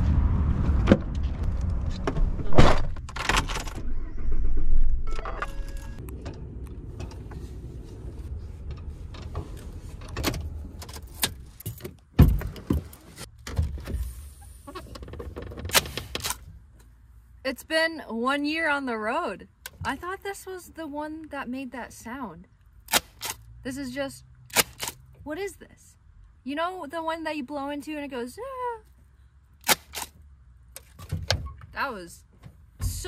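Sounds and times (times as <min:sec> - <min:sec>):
vehicle low rumble: 0:00.0 - 0:26.8.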